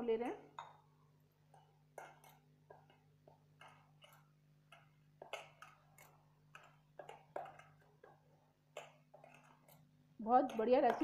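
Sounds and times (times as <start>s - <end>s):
dough squishing by hand: 1.4s - 11.0s
fingers clicking against metal bowl: 2.0s - 11.0s.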